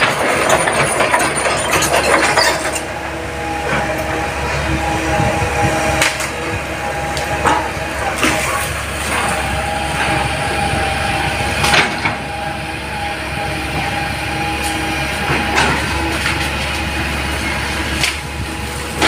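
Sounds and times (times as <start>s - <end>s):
excavator diesel engine whine: 0.0s - 19.0s.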